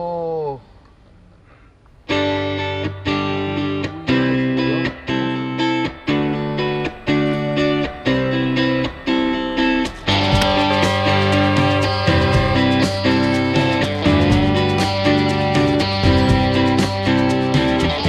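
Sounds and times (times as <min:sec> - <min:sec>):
guitar chords: 0:02.0 - 0:18.0.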